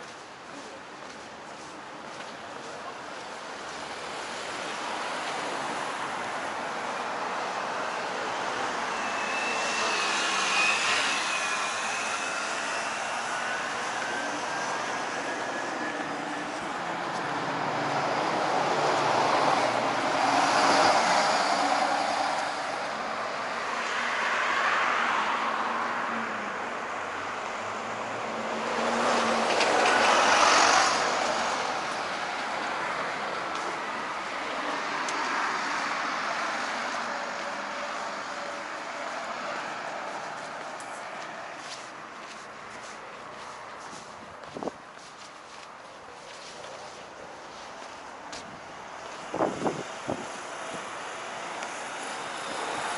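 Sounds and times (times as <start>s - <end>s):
background traffic noise: 0.0s - 52.9s
vehicles passing close by: 0.0s - 52.9s.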